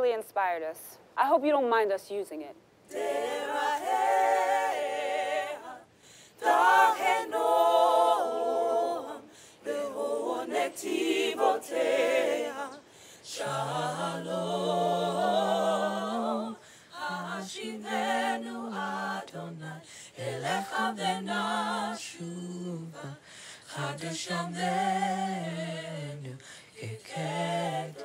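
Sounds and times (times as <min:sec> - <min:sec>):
a cappella group singing in harmony: 0:02.8 - 0:28.0.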